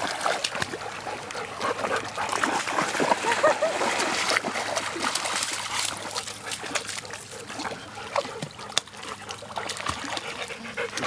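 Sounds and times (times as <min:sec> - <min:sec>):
small water splashes: 0:00.0 - 0:11.0
water sloshing and trickling: 0:00.0 - 0:11.0.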